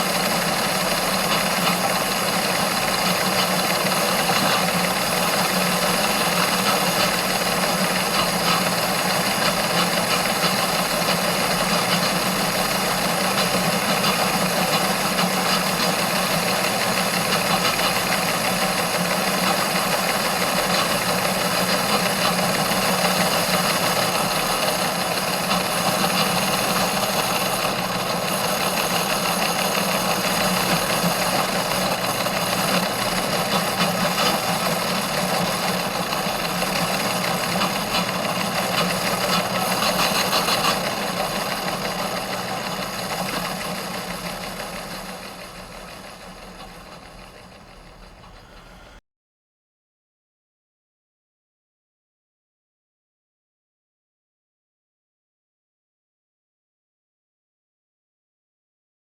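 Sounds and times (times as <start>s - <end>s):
engine rattling steadily: 0.0s - 49.0s.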